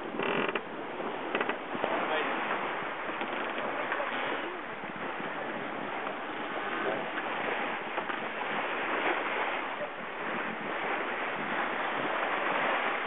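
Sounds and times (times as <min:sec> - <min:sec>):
water rushing past boat hull: 0:00.0 - 0:13.0
wind on microphone: 0:00.0 - 0:13.0.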